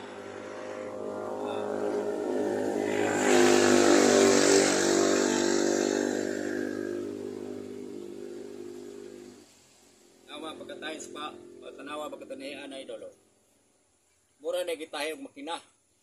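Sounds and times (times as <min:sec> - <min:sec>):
motor vehicle passing by: 0:00.0 - 0:13.1.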